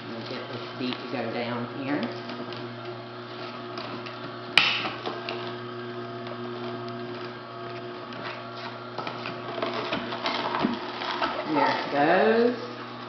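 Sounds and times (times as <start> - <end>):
electric juicer motor humming: 0.0 - 13.0.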